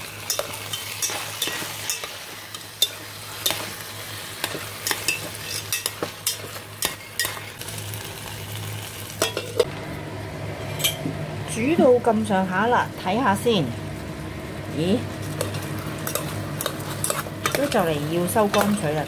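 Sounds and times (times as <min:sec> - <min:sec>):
chicken wings sizzling in a pot: 0:00.0 - 0:10.3, 0:12.0 - 0:19.0.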